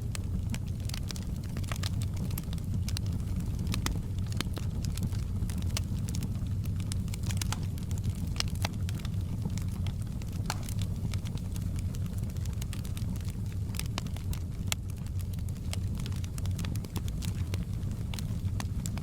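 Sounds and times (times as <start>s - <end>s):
fire crackling and popping: 0.0s - 19.0s
low fire rumble: 0.0s - 19.0s.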